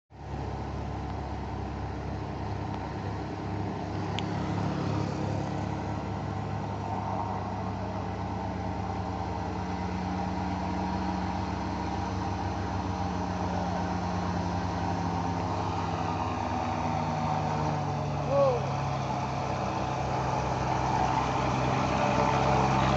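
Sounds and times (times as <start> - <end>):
old engine humming: 0.2 - 22.9.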